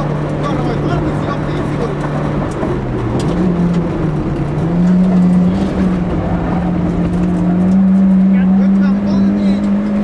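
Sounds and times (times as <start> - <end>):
rally car engine at full throttle: 0.0 - 10.0
road and tyre noise: 0.0 - 10.0.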